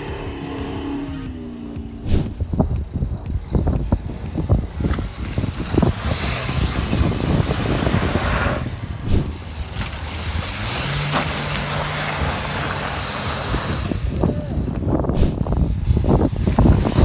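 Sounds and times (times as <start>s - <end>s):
wheels spinning in dirt: 1.9s - 17.0s.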